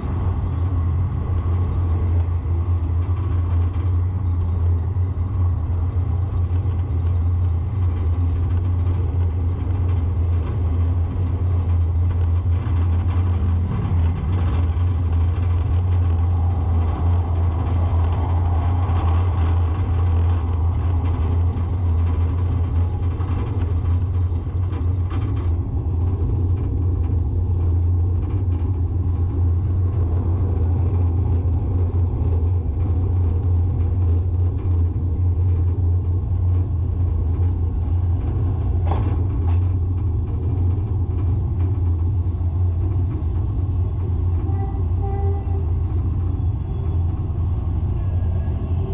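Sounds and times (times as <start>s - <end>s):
car engine and tyre noise: 0.0s - 48.9s.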